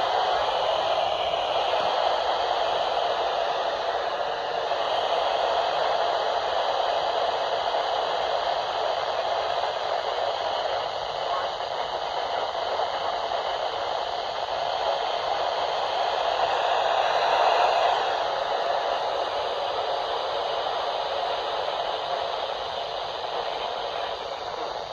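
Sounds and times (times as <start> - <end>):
radio static hiss: 0.0 - 24.9.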